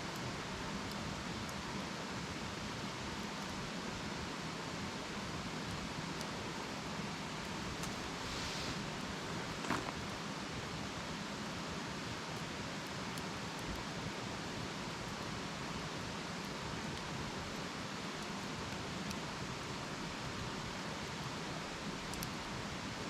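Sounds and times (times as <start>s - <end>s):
campfire hissing and crackling: 0.0s - 23.0s.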